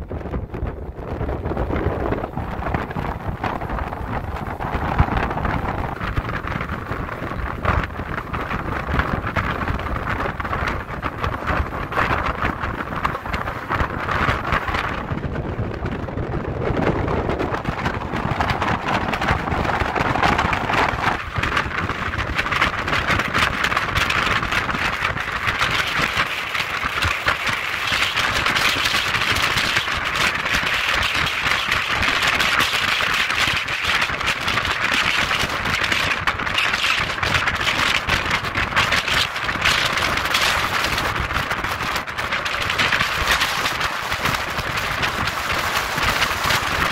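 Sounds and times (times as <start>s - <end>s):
ferry engine noise: 0.0s - 46.9s
wind buffeting microphone: 0.0s - 46.9s.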